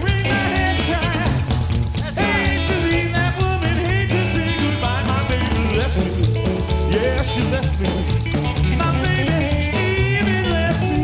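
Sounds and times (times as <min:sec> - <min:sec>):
drum kit: 0:00.0 - 0:11.0
electric guitar: 0:00.0 - 0:11.0
man singing: 0:00.0 - 0:11.0
upright double bass: 0:00.0 - 0:11.0.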